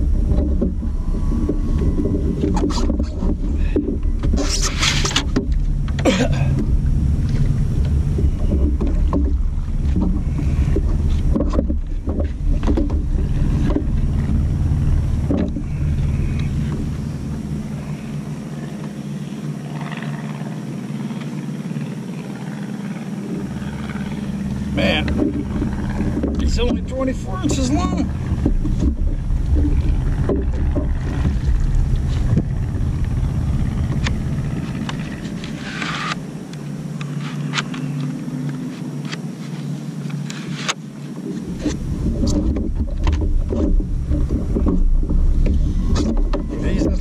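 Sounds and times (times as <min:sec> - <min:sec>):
water against kayak hull: 0:00.0 - 0:47.0
wind rumble on microphone: 0:00.0 - 0:47.0.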